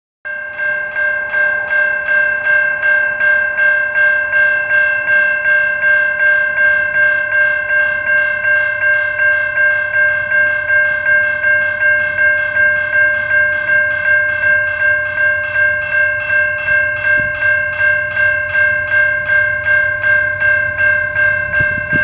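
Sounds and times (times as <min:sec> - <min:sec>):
crossing warning bell ringing: 0:00.2 - 0:22.0.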